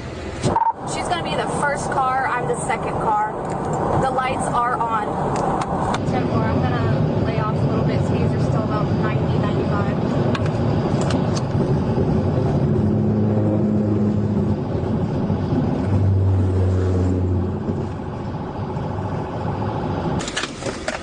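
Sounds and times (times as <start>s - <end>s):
car interior road noise: 0.0s - 21.0s.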